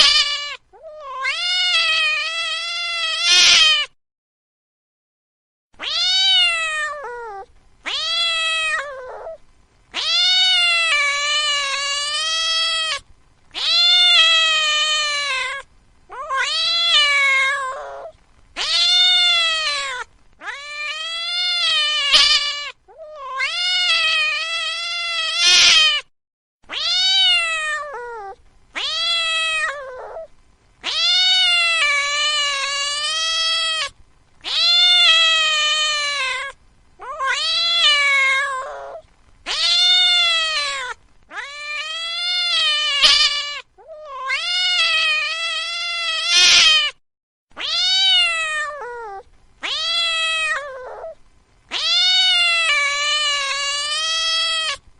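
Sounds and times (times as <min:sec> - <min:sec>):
cat meowing: 0:00.0 - 0:04.0, 0:05.8 - 0:26.1, 0:26.7 - 0:47.0, 0:47.6 - 0:54.8.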